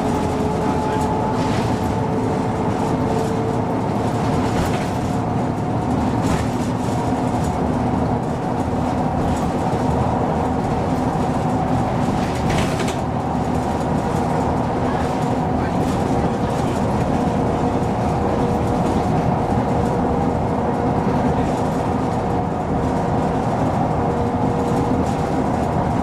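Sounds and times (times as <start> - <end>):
bus diesel engine driving: 0.0 - 26.0.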